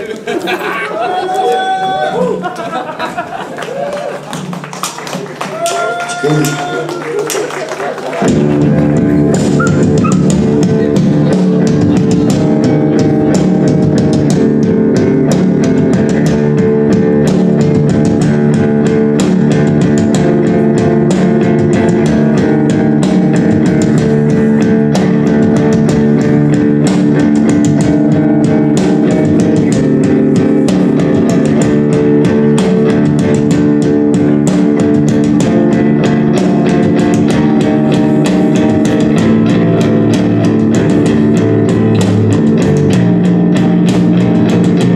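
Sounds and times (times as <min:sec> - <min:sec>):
guitar: 0:00.0 - 0:44.9
drum kit: 0:04.2 - 0:44.9
bass guitar: 0:08.2 - 0:44.9.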